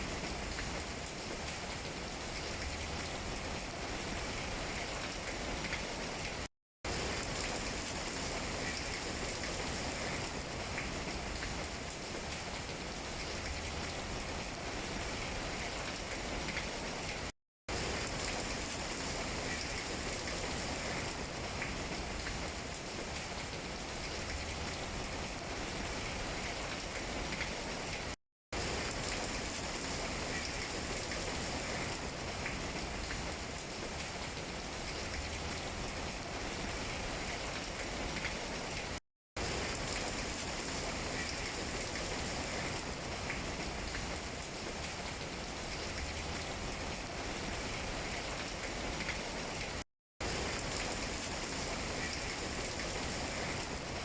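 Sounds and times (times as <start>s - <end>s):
rain pattering on leaves: 0.0s - 54.0s.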